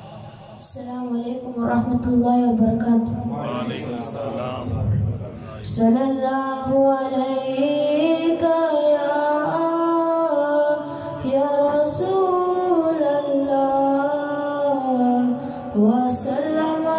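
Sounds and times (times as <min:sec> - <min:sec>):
boy singing into a microphone: 0:00.0 - 0:04.2, 0:05.6 - 0:16.9.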